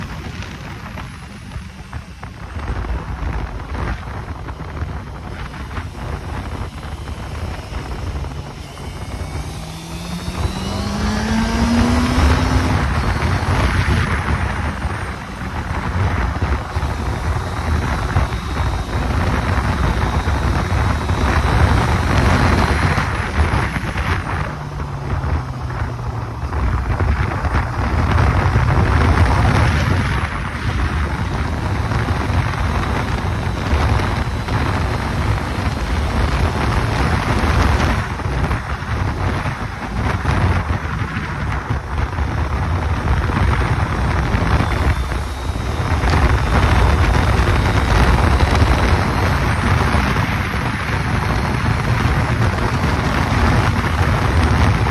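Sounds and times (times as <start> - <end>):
motorcycle engine running: 0.0 - 54.9
wind rumble on microphone: 0.0 - 54.9.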